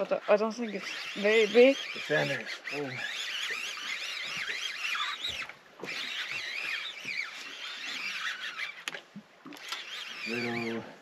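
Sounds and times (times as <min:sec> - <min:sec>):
high-pitched warbling squeals: 0:00.0 - 0:08.9, 0:09.6 - 0:10.9.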